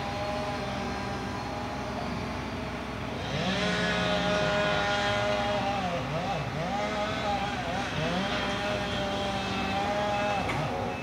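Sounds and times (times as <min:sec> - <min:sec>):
diesel engine revving: 0:00.0 - 0:11.0
hydraulics: 0:00.0 - 0:11.0.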